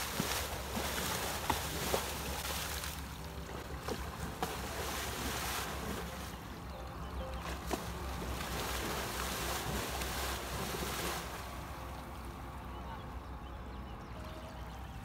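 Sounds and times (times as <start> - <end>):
horse hoof splashing water: 0.0 - 12.6.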